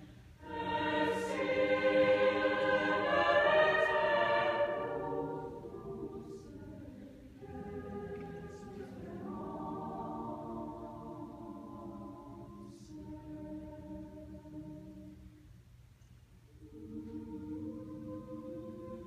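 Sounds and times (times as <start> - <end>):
choir singing held chords: 0.0 - 15.4, 16.6 - 19.0.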